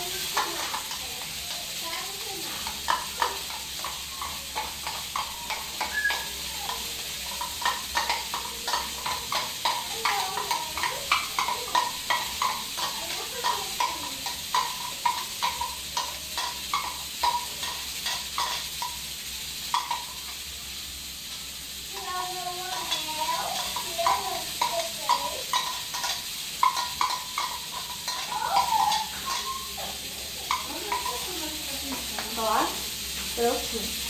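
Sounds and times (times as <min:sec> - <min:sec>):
utensil clinking against container: 0:00.0 - 0:19.0, 0:22.7 - 0:32.4
steady hiss: 0:00.0 - 0:34.0.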